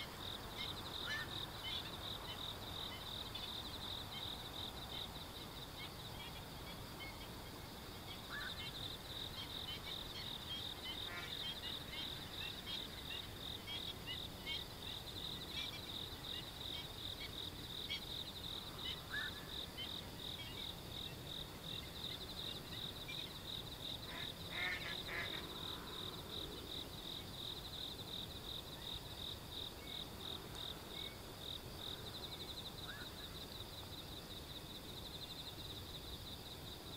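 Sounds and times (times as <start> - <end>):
night insects trilling: 0.0 - 36.9.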